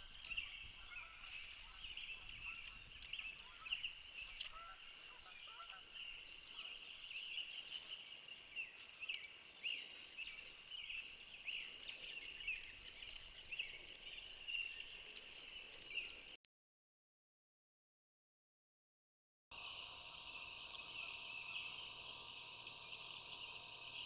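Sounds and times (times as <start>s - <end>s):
chorus of high chirps and peeps: 0.0s - 16.4s, 19.6s - 24.0s.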